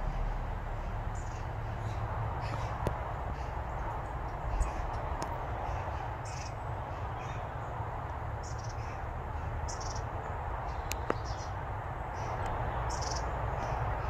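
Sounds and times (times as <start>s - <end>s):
low background rumble: 0.0s - 14.0s
small birds chirping: 1.0s - 14.0s.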